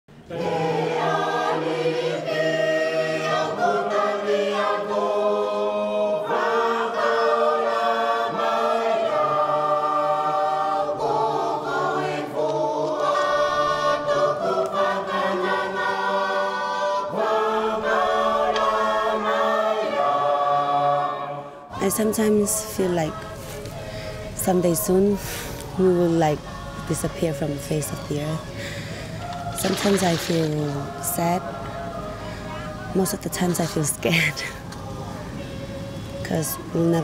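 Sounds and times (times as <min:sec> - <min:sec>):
choir singing: 0:00.1 - 0:37.0.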